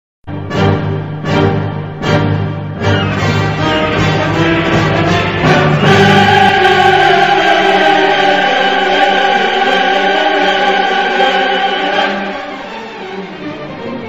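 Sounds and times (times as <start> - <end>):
dramatic orchestral music: 0.3 - 14.0
choir singing held chords: 0.5 - 14.0.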